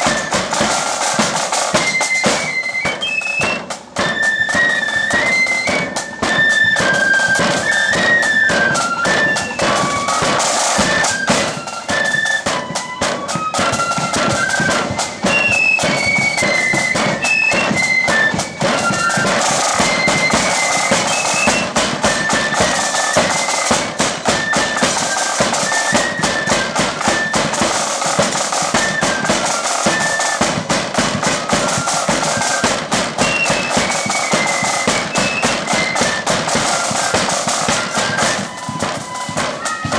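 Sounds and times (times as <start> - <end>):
flutes playing a march melody: 0.0 - 39.9
rapid dense drumming: 0.0 - 39.9.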